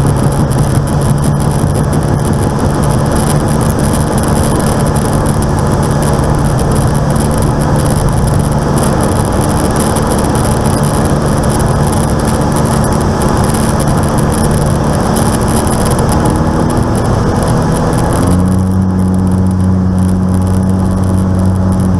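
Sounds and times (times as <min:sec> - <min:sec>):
piston aircraft engine running: 0:00.0 - 0:21.9.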